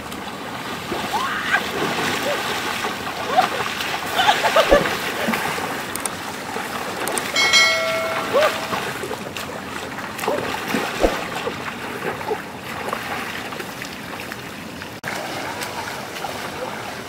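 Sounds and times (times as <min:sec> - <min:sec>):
people wading through water: 0:00.0 - 0:17.0
river water rushing: 0:00.1 - 0:17.0.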